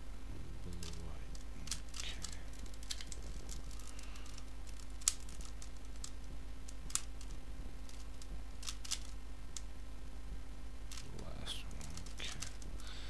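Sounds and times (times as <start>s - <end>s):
low electrical hum: 0.0s - 13.0s
plastic cube layers clicking: 0.7s - 9.7s, 10.9s - 12.8s.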